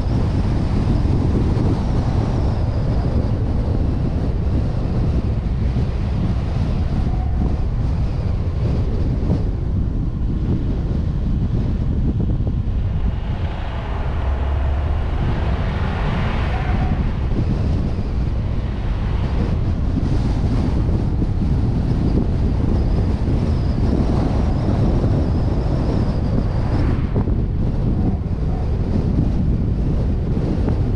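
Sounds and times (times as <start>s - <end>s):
road and engine rumble: 0.0s - 30.9s
wind buffeting camera: 0.0s - 30.9s.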